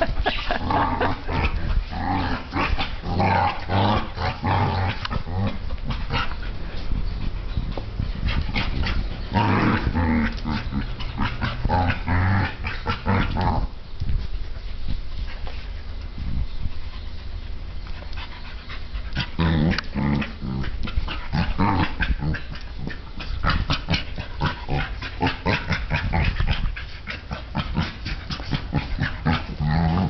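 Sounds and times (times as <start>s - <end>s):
dogs growling: 0.0s - 13.8s, 18.5s - 30.0s.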